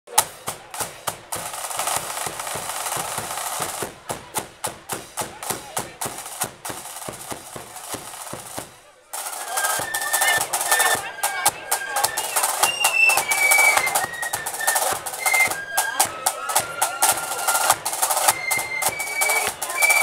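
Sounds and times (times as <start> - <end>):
snare and bass drum march: 0.1 - 20.0.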